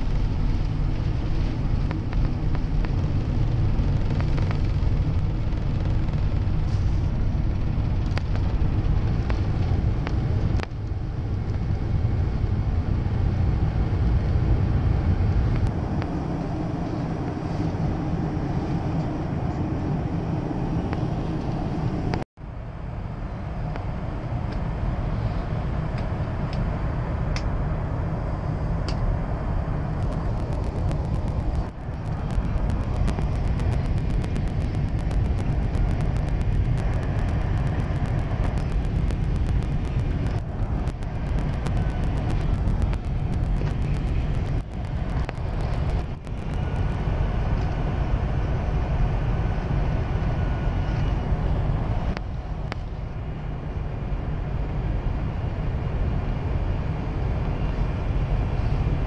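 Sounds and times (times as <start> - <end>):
airflow through fuselage: 0.0 - 59.0
jet engine rumble: 0.0 - 59.0.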